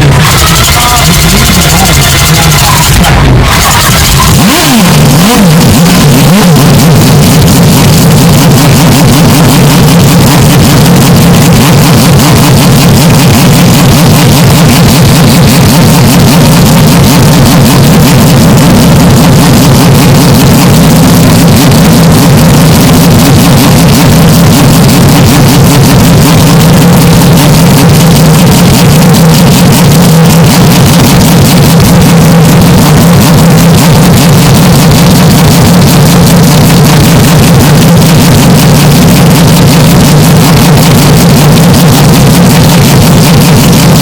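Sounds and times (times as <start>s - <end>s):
distorted engine-like drone: 0.0s - 44.0s.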